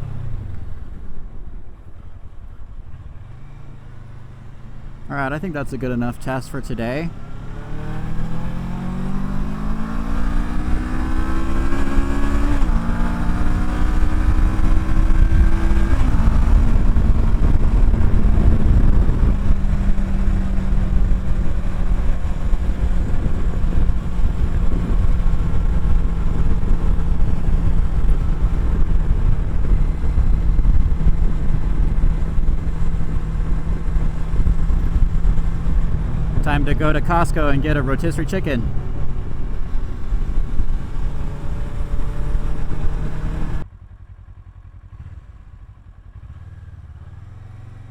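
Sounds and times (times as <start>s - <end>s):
motorcycle engine accelerating: 6.6s - 47.9s.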